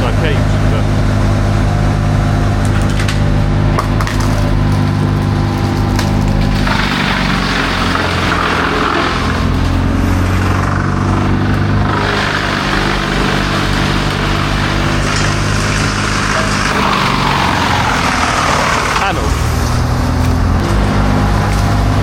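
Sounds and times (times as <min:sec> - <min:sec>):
large engine running: 0:00.0 - 0:22.0
harsh noise layer: 0:00.1 - 0:22.0.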